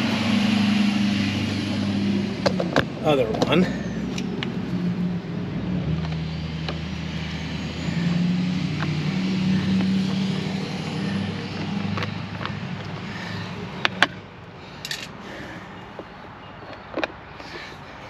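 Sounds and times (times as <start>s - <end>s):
vehicle engine running: 0.0s - 16.5s.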